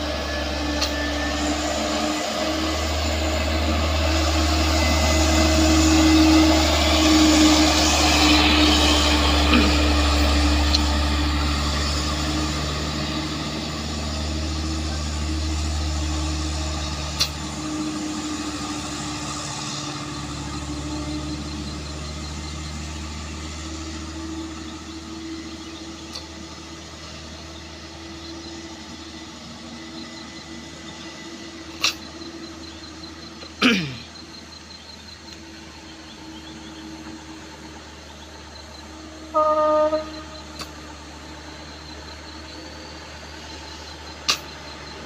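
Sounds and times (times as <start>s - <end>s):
diesel truck engine climbing: 0.0s - 45.0s.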